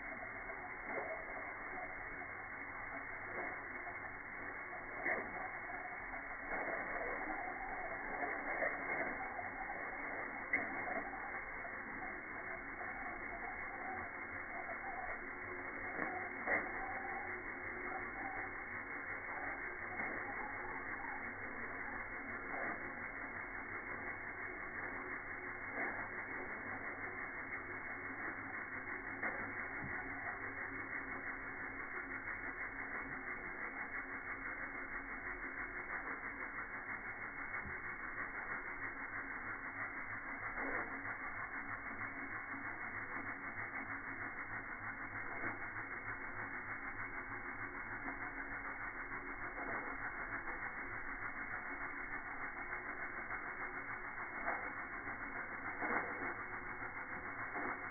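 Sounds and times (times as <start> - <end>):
faint clicks: 0.0 - 57.9
steam hissing from spinning ball: 0.0 - 57.9.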